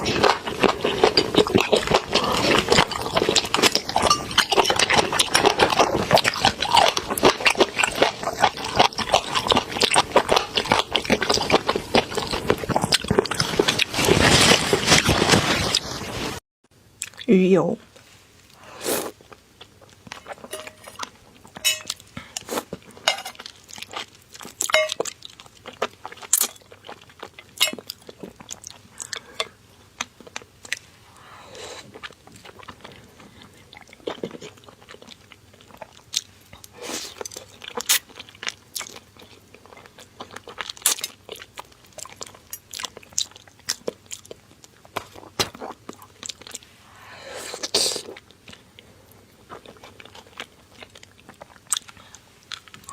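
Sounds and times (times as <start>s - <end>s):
person crunching and chewing: 0.0s - 16.1s, 18.5s - 52.9s.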